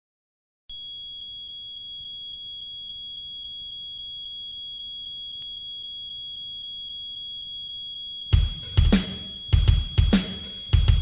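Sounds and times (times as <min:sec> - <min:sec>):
smoke alarm high-pitched tone: 0:00.7 - 0:11.0.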